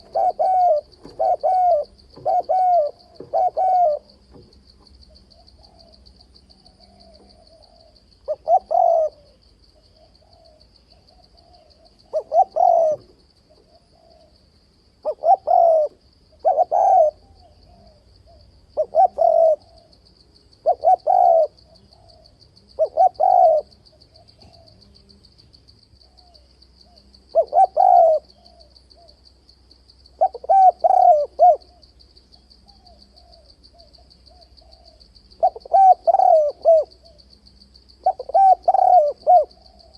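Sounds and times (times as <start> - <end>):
dove cooing: 0.0 - 14.4, 15.0 - 20.0, 20.6 - 25.0, 26.0 - 29.2, 30.2 - 31.9, 32.6 - 37.4, 38.0 - 39.9
faint high insect trill: 0.0 - 39.9.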